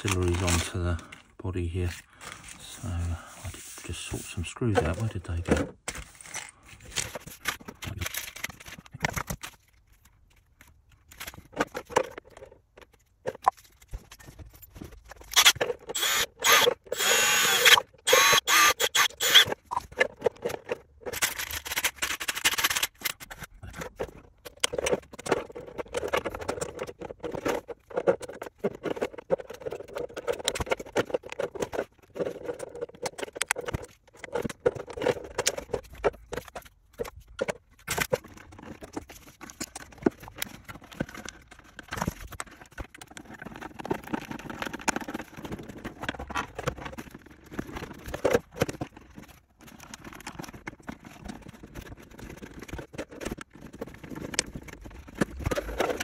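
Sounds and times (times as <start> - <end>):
clicks and rustles of parts: 0.0 - 56.0
plastic scraping and squeaking: 0.0 - 56.0.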